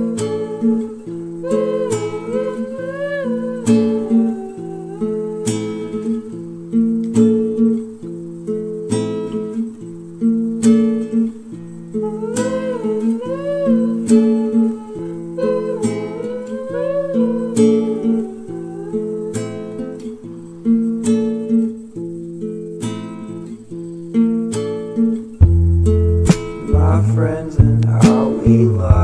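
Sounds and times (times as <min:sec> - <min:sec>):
sliding guitar melody: 0:00.0 - 0:29.0
strummed guitar: 0:00.0 - 0:29.0.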